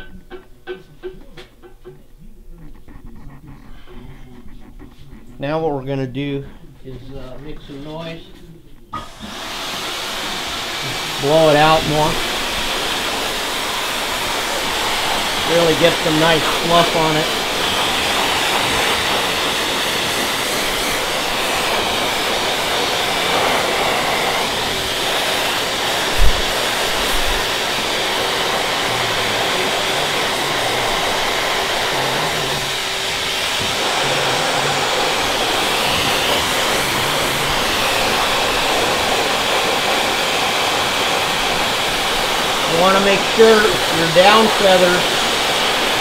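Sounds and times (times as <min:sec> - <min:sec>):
air blower rushing through hose: 0:09.0 - 0:46.0.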